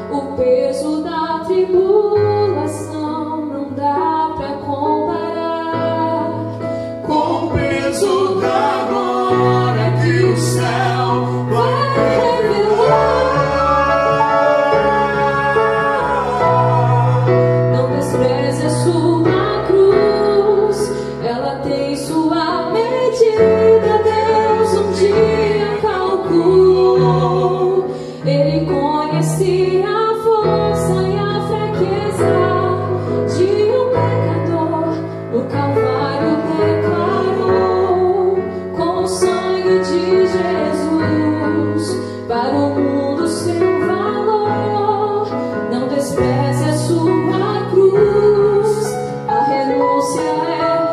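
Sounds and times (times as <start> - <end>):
woman singing gospel song: 7.0 - 16.4, 17.7 - 50.9.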